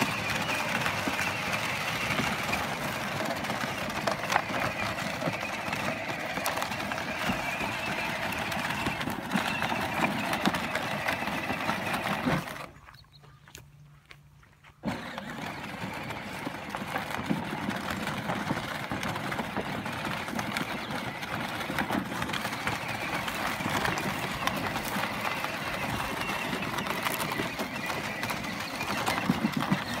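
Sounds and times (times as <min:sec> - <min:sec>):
toy quad wheels crunching on dirt: 0:00.0 - 0:30.0.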